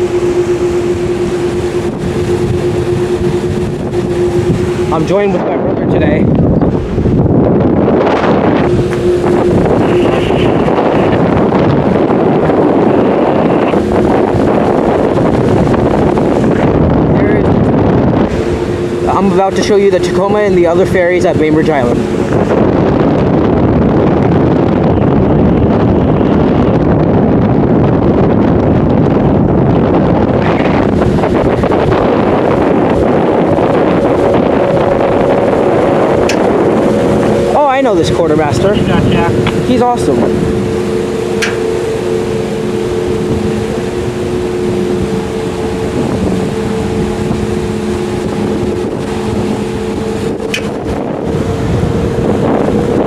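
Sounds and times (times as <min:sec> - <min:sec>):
churning propeller wash: 0:00.0 - 0:53.0
ship machinery drone: 0:00.0 - 0:53.0
wind buffeting microphone: 0:00.0 - 0:53.0.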